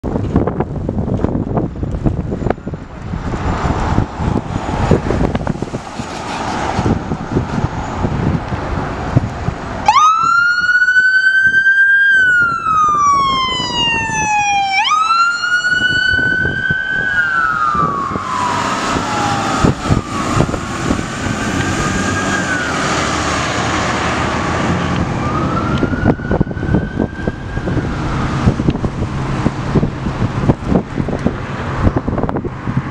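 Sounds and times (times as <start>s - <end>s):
fire truck engine rumble: 0.0s - 32.9s
wind on microphone: 0.0s - 32.9s
fire vehicle sirens wailing: 2.7s - 32.8s.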